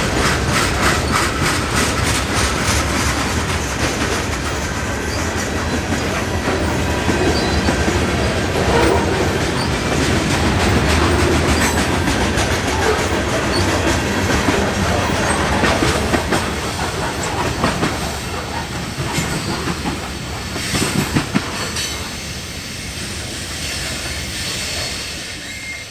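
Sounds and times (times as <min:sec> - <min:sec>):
train wheels clacking: 0:00.0 - 0:25.9
faint wheel squeal: 0:00.1 - 0:19.8, 0:23.6 - 0:25.9.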